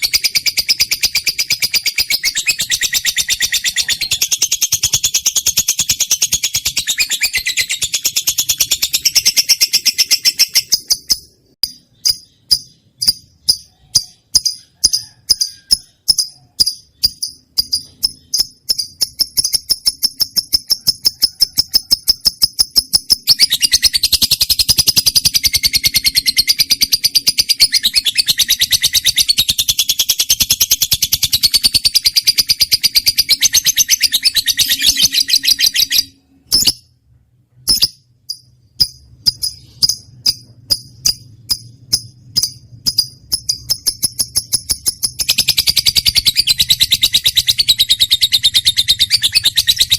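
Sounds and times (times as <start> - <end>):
bird chattering trill: 0.0 - 36.9, 37.7 - 49.9
bird chirping: 0.0 - 49.9.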